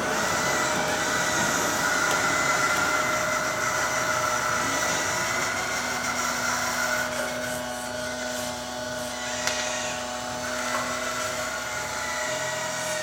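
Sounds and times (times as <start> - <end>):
model machinery motor whine: 0.0 - 13.0.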